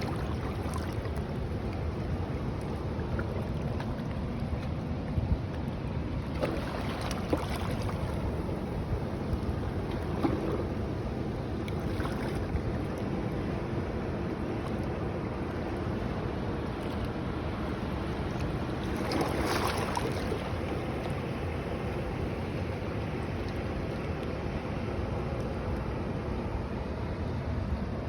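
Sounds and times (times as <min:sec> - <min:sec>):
ocean waves washing on beach: 0:00.0 - 0:28.0.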